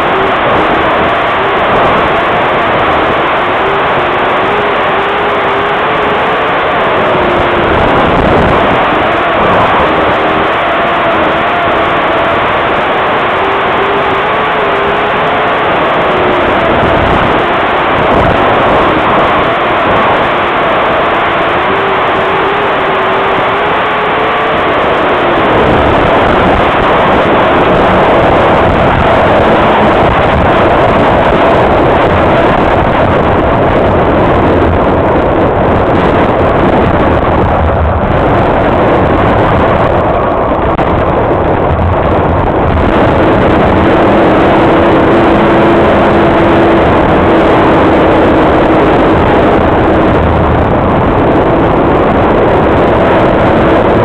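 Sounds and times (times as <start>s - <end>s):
race car engine roaring: 0.0s - 54.0s.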